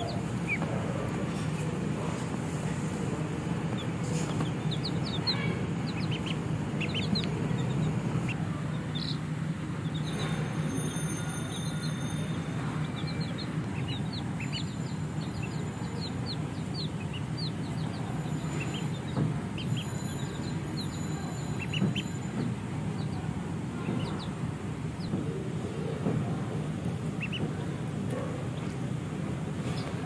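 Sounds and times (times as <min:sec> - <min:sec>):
chicks and ducklings peeping: 0:00.0 - 0:30.0
steady low hum: 0:00.0 - 0:30.0.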